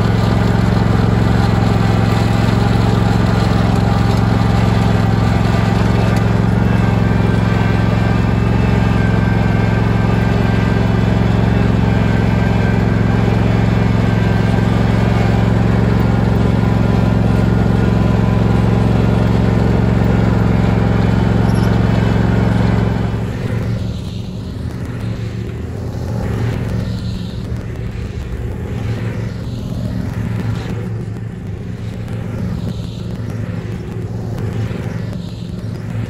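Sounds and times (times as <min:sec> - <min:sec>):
drag scraping over loose dirt: 0:00.0 - 0:36.0
lawn tractor engine under load: 0:00.0 - 0:36.0.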